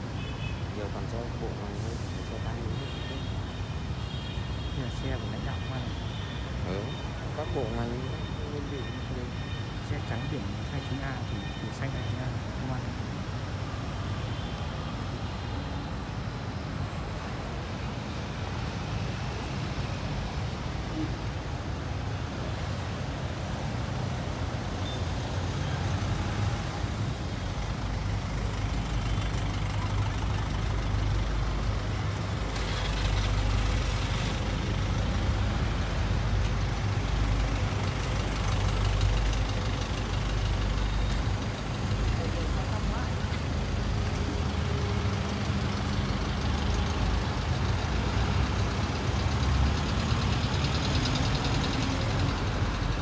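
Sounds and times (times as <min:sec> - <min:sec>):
vehicles driving past: 0:00.0 - 0:53.0.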